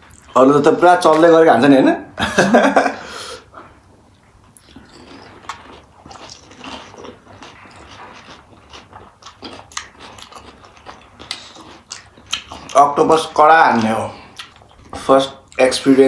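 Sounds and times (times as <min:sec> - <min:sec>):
people chewing crunchy food: 0:03.0 - 0:16.0.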